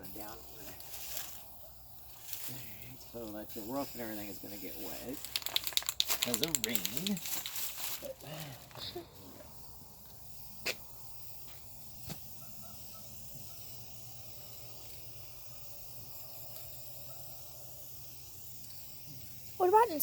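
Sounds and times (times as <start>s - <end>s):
aerosol can hissing: 0.0s - 7.7s, 8.7s - 20.0s.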